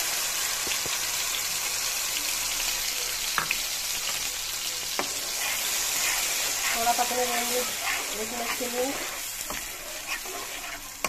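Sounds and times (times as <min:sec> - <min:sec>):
paste frying in hot oil: 0:00.0 - 0:11.0.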